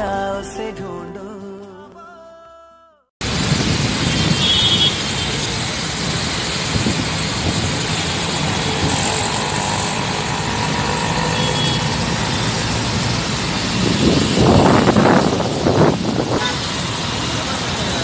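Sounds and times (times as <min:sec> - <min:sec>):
outdoor hiss and rumble: 0:03.2 - 0:18.0.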